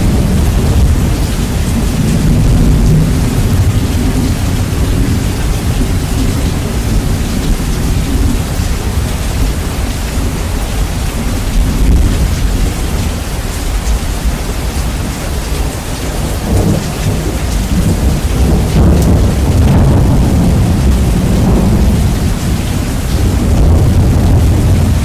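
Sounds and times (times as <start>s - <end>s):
heavy rain: 0.0s - 25.0s
low rumble of thunder: 0.0s - 25.0s.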